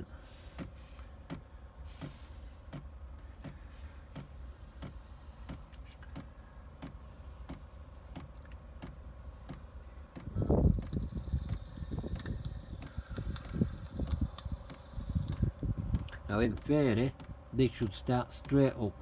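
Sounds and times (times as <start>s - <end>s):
fuel pump ticking: 0.0s - 19.0s
heater fan humming: 0.0s - 19.0s.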